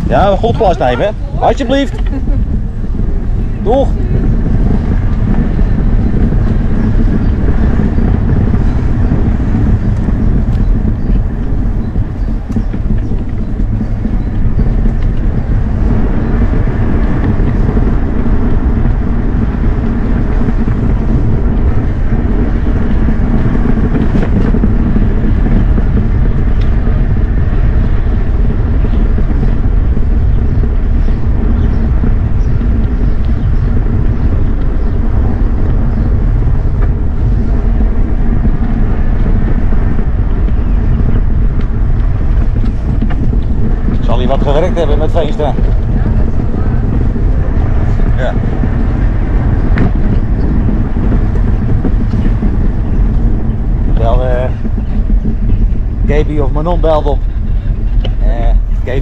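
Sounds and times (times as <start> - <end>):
tyres on brick paving: 0.0 - 59.0
wind rush on microphone: 0.0 - 59.0.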